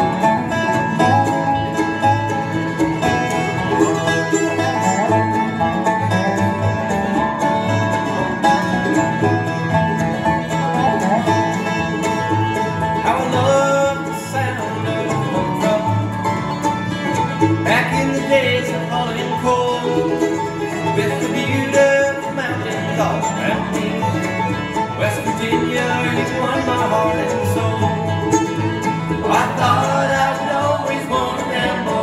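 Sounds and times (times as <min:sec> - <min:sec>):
banjo: 0:00.0 - 0:32.0
fiddle: 0:00.0 - 0:32.0
guitars: 0:00.0 - 0:32.0
upright bass: 0:00.0 - 0:32.0.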